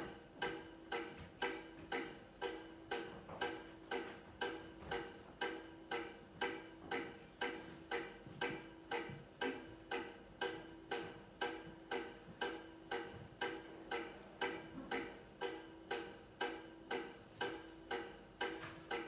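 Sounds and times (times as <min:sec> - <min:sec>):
clock-like ticking: 0:00.0 - 0:19.0.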